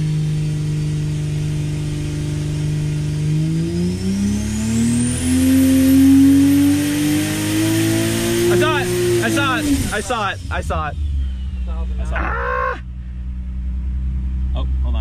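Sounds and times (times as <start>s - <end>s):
car engine revving under load: 0.0s - 15.0s.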